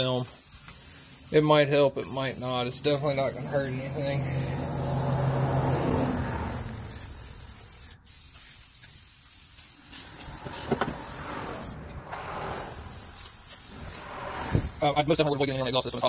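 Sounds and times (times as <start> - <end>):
aerosol can spraying: 0.0 - 16.0.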